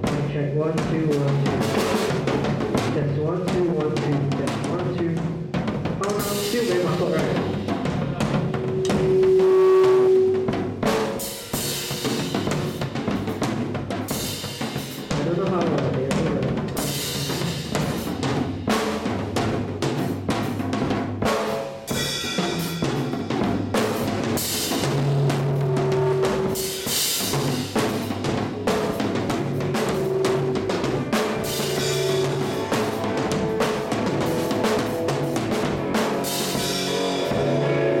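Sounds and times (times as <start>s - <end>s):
drum kit solo: 0.0s - 38.0s.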